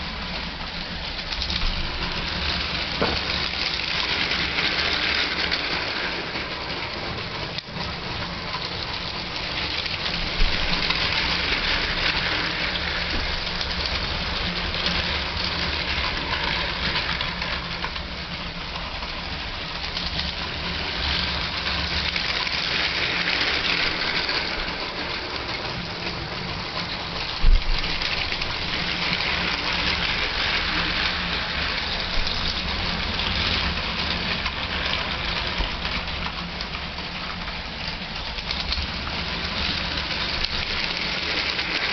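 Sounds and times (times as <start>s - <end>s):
toy trains whirring and rattling: 0.0s - 41.9s.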